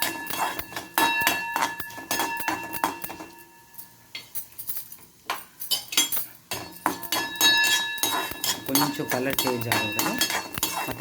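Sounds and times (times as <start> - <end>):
spoon scraping and clinking on pan: 0.0 - 11.0.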